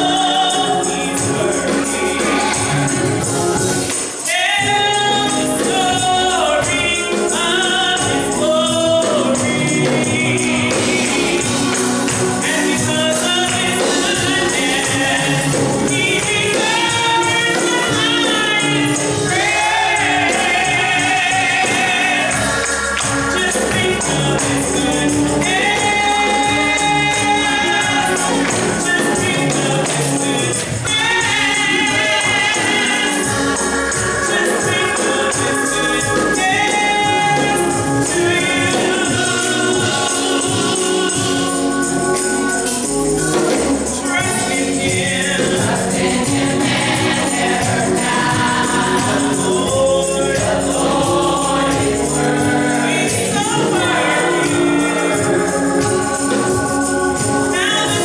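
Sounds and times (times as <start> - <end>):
bright busy percussion: 0.0 - 58.0
church band keyboard and drums: 0.0 - 58.0
gospel choir singing: 0.0 - 58.0.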